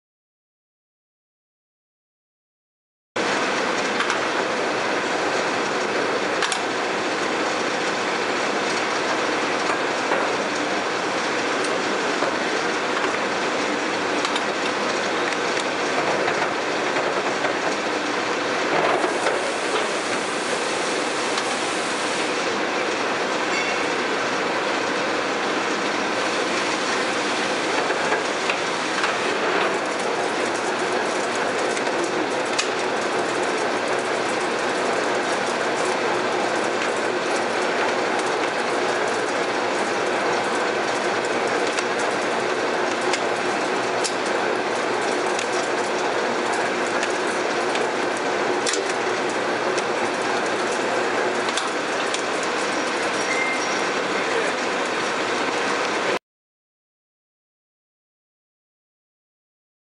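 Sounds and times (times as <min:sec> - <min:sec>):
lathe running: 0:03.3 - 0:56.2.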